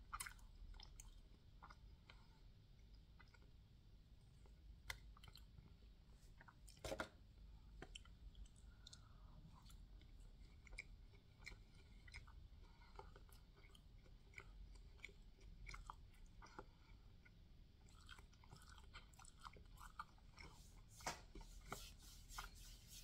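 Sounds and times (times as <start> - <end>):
chewing with wet mouth clicks: 0.0 - 6.8, 7.7 - 20.6.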